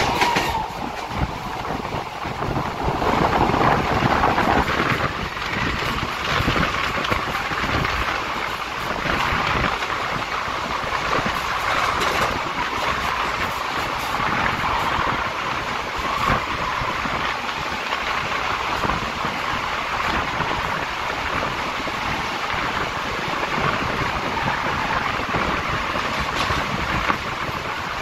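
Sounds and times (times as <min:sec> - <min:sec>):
echoing train wheel noise: 0:00.0 - 0:28.0.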